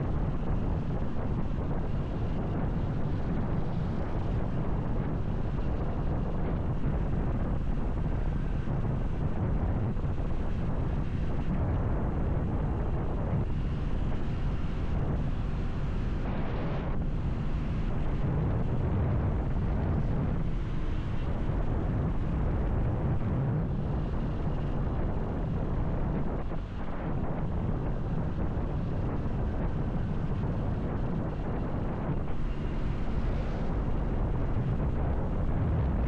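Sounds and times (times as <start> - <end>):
motorcycle running: 0.0 - 36.0
wind buffeting microphone: 0.0 - 36.0.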